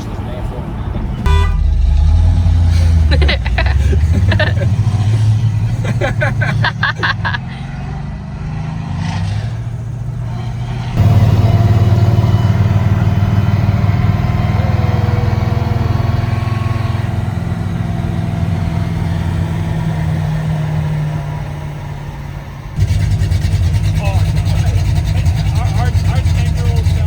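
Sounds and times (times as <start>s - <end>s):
car engine droning: 0.0s - 27.0s.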